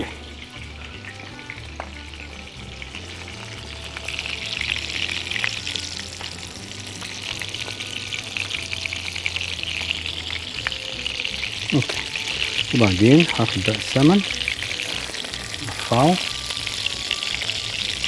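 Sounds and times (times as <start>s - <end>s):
fish sizzling in a pan: 0.0s - 18.0s.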